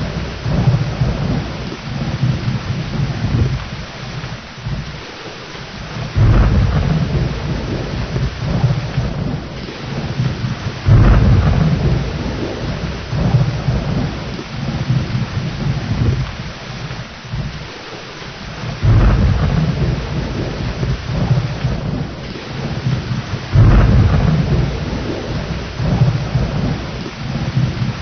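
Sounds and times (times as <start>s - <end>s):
rolling thunder: 0.0s - 5.1s, 5.8s - 17.8s, 18.4s - 28.0s
heavy rain: 0.0s - 28.0s.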